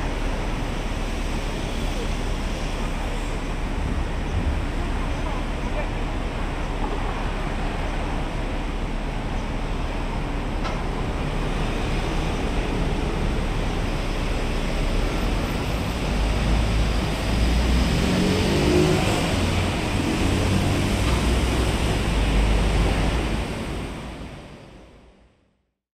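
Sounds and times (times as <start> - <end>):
heavy diesel vehicles passing: 0.0 - 25.4
highway traffic noise: 0.0 - 25.6.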